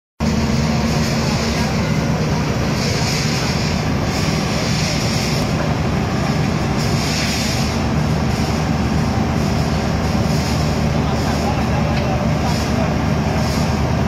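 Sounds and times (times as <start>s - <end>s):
diesel drilling rig drone: 0.2s - 14.0s
pulsing hiss: 0.2s - 14.0s.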